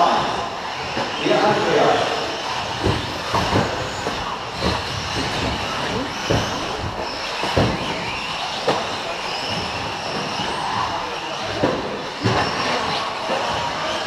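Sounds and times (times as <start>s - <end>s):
electric motors high-pitched whine: 0.0s - 14.0s.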